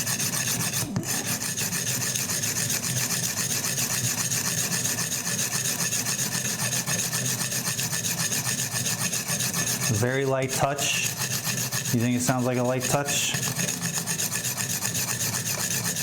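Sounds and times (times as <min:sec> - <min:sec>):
sharpening stone scraping knife: 0:00.0 - 0:16.0.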